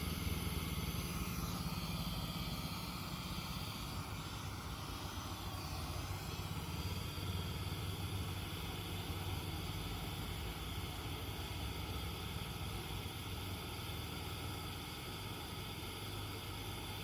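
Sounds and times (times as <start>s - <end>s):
pressure lantern burner hissing: 0.0s - 17.0s.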